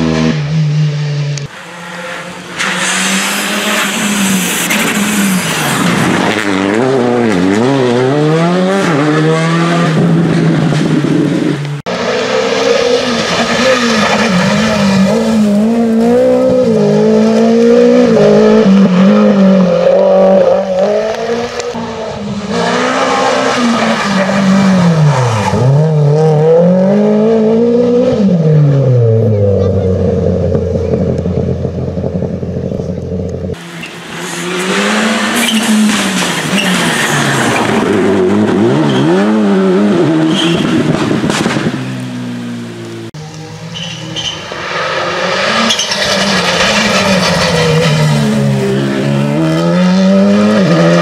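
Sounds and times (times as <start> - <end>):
rally car engines at full throttle: 0.0 - 51.0.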